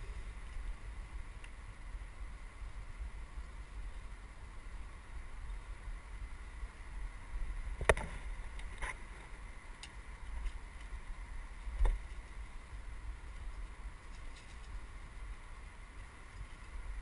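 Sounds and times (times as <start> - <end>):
wind and trail rumble: 0.0 - 17.0.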